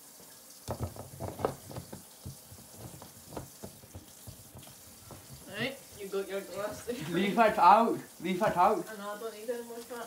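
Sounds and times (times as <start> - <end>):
liquid sloshing: 0.6 - 8.8.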